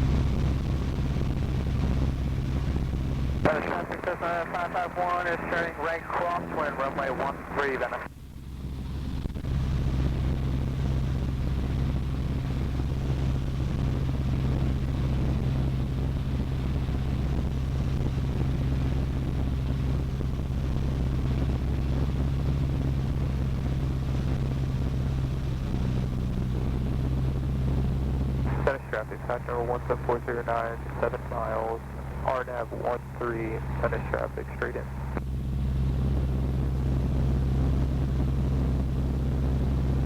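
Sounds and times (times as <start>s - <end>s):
airplane engine and propeller drone: 0.0s - 40.0s.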